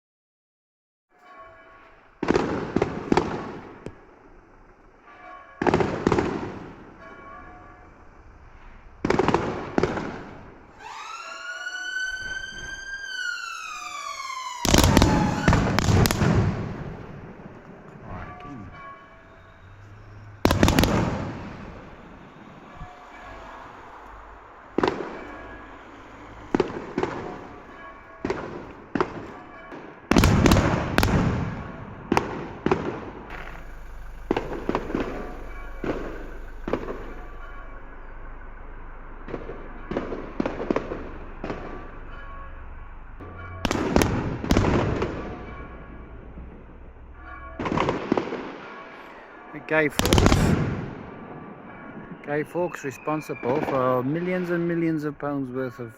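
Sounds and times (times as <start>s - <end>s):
fireworks bangs and crackle: 2.2s - 4.4s, 5.1s - 7.5s, 8.3s - 54.8s.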